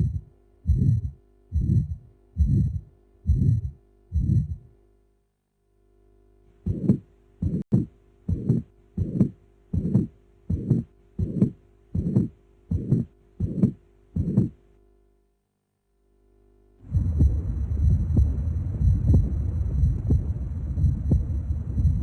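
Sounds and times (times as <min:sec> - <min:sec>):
heartbeat thuds: 0:00.0 - 0:04.7, 0:06.6 - 0:14.6, 0:16.9 - 0:22.0.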